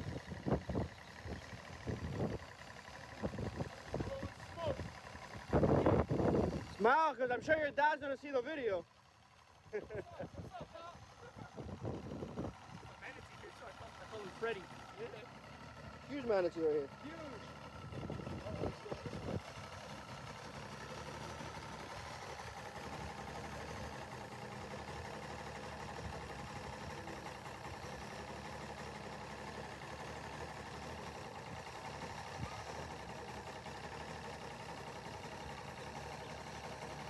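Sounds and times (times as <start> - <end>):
outboard motor idling: 0.0 - 37.0.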